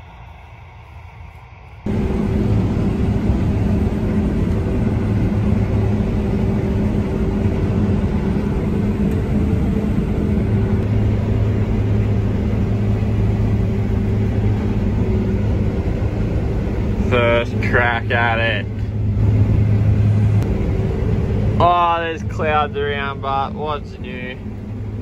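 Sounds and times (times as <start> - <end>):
combine harvester drone: 0.0 - 25.0.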